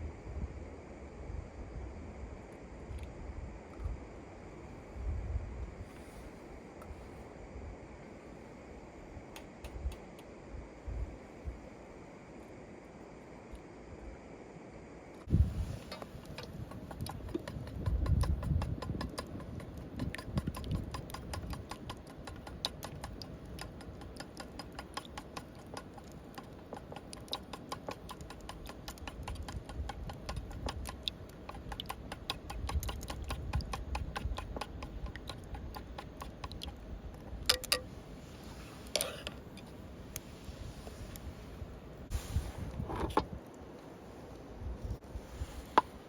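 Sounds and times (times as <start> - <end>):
wind rumbling on microphone: 0.0 - 12.9, 15.2 - 27.0, 27.9 - 46.0.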